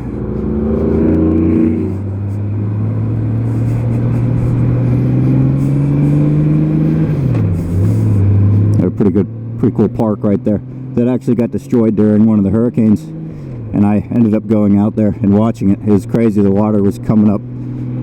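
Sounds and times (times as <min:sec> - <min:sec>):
motorcycle engine rising in pitch: 0:00.0 - 0:18.0.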